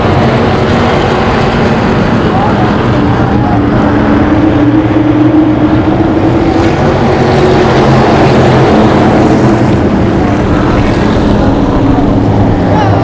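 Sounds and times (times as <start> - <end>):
race car engine at speed: 0.0 - 13.0.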